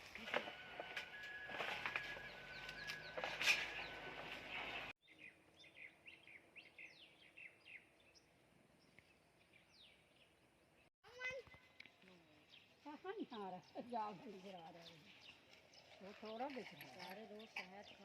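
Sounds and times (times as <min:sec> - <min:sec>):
birds chirping: 0:00.0 - 0:18.0
outdoor background noise: 0:00.0 - 0:18.0.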